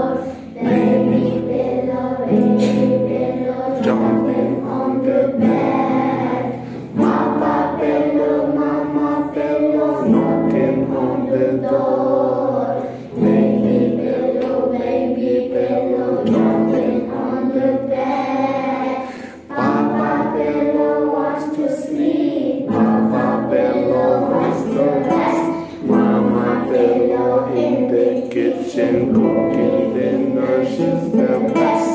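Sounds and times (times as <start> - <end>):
acoustic guitar: 0.0 - 31.9
children singing together: 0.0 - 31.9.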